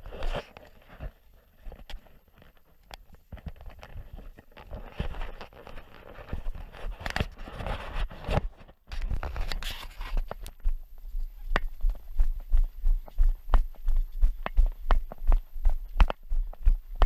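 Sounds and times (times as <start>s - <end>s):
footsteps in dry grass: 0.0s - 17.0s.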